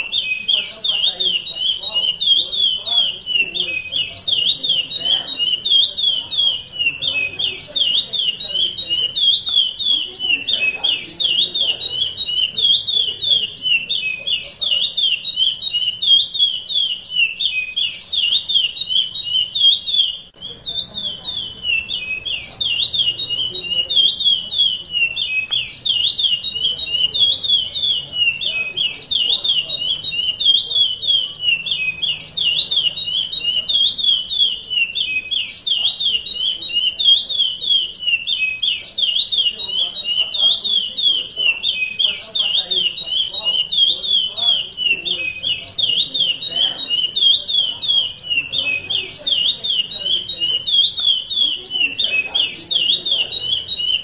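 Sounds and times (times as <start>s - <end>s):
finch singing high whistled notes: 0.0s - 54.0s.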